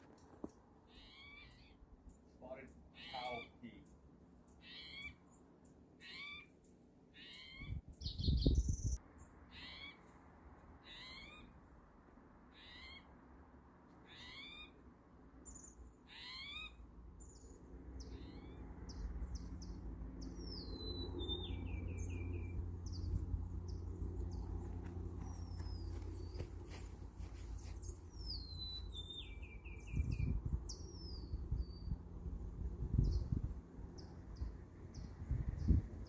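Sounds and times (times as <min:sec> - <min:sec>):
small birds chirping: 0:00.2 - 0:10.1, 0:15.4 - 0:36.0.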